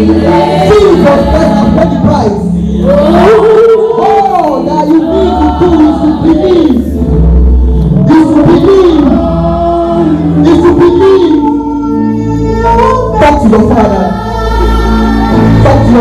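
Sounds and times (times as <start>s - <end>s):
person singing: 0.0s - 16.0s
sustained bass notes: 0.0s - 16.0s.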